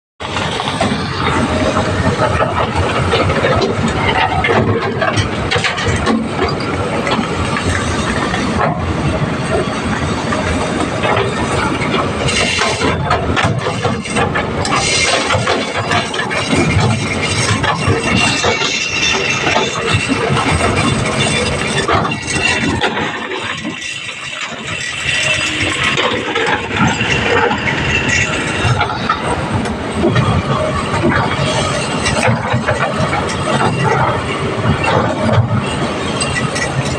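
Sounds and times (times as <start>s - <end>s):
excavator diesel engine running: 0.2s - 36.9s.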